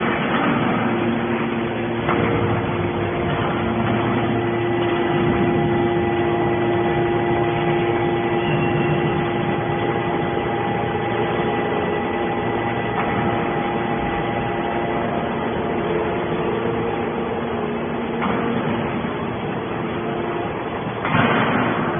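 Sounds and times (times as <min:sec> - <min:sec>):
hydraulic baler humming and whining: 0:00.0 - 0:21.9.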